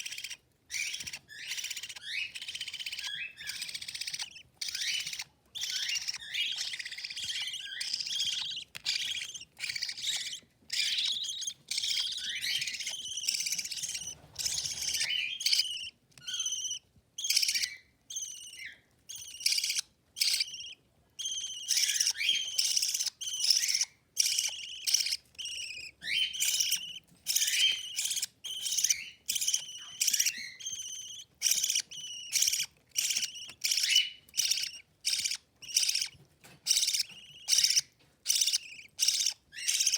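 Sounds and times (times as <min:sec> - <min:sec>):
bird chicks begging chirps: 0:00.0 - 0:39.9.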